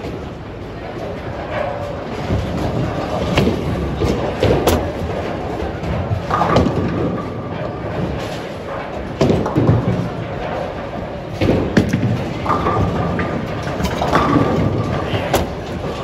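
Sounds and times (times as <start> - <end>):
bowling balls rolling on lanes: 0.0 - 16.0
bowling pins being struck: 1.6 - 16.0.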